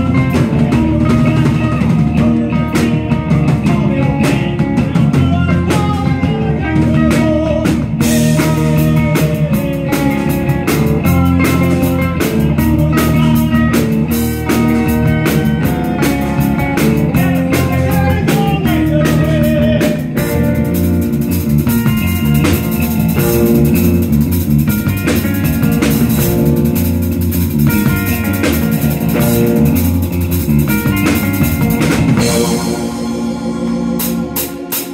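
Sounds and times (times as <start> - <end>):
drum kit: 0.0 - 34.9
electric bass: 0.0 - 34.9
electric guitar: 0.0 - 34.9.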